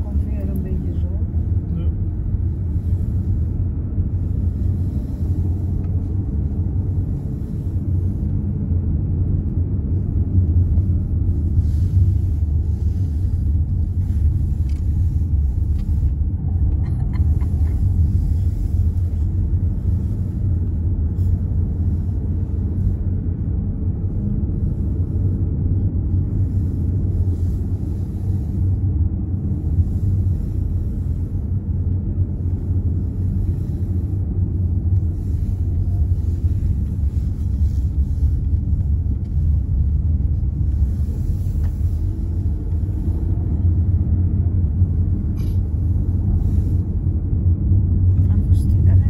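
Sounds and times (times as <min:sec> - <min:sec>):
car road and engine rumble: 0:00.0 - 0:49.0.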